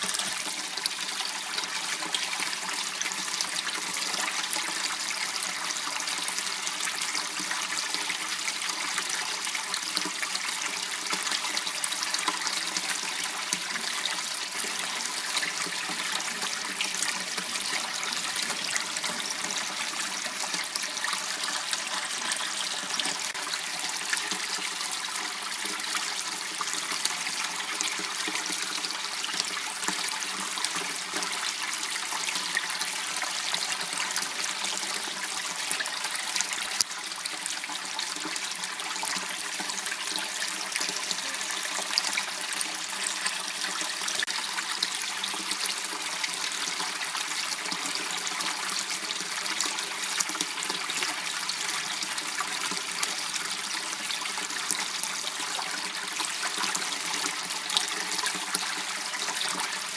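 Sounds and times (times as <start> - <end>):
water trickling in a channel: 0.0 - 59.9.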